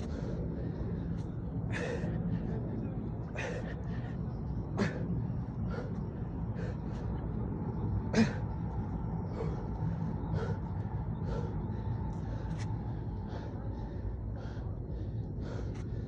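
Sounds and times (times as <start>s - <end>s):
man breathing hard: 0.0s - 16.0s
steady low rumble: 0.0s - 16.0s.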